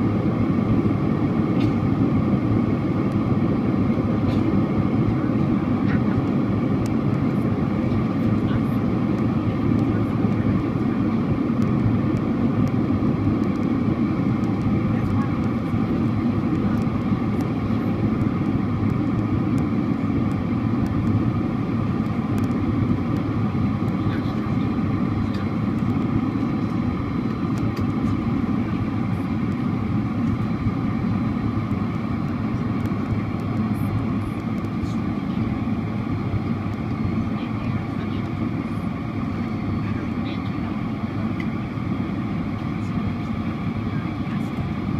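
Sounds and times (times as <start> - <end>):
airliner cabin engine rumble: 0.0 - 44.9.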